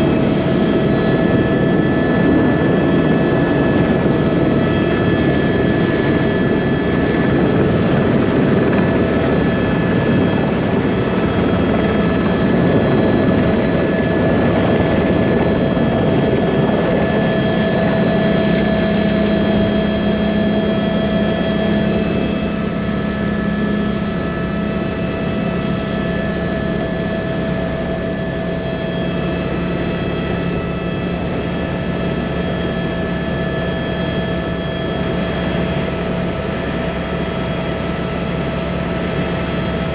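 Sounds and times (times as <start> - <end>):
helicopter turbine and rotor: 0.0 - 39.9.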